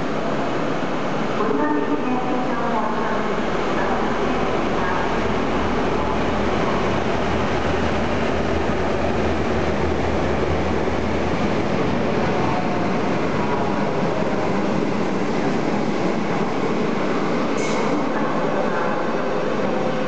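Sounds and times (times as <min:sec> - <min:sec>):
diesel locomotive engines droning: 0:00.0 - 0:20.0
train rumbling by: 0:00.0 - 0:20.0.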